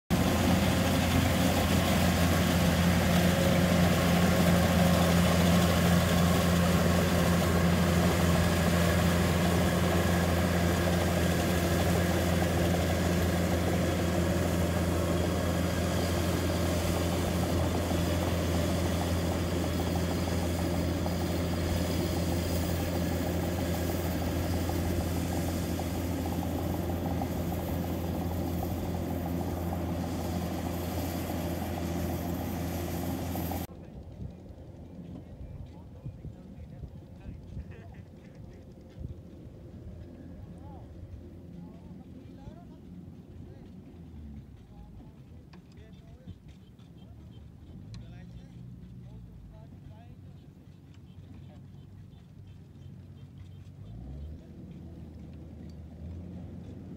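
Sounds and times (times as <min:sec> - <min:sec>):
combine harvester diesel engine drone: 0:00.1 - 0:56.9.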